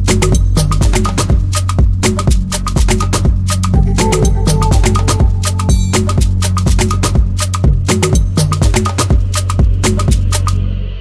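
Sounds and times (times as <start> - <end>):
music with busy percussion beat: 0.0 - 10.6.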